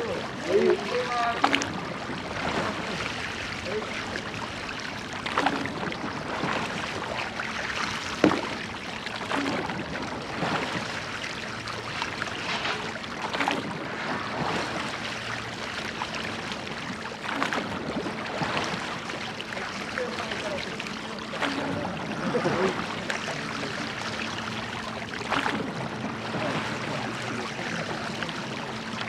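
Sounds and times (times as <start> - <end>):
oars splashing and knocking: 0.0 - 29.0
water rushing around boat: 0.0 - 29.0.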